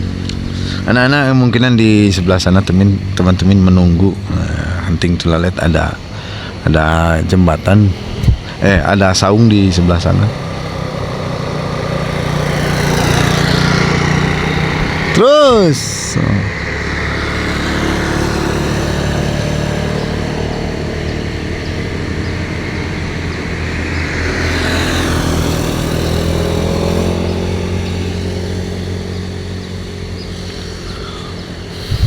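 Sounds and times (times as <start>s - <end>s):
highway traffic passing: 0.0s - 32.0s
vehicle passing loudly: 0.0s - 32.0s.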